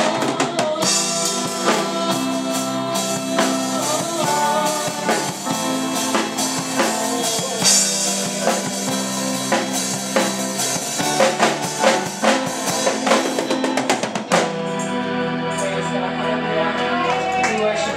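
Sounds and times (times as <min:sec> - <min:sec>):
drum kit playing: 0:00.0 - 0:15.7.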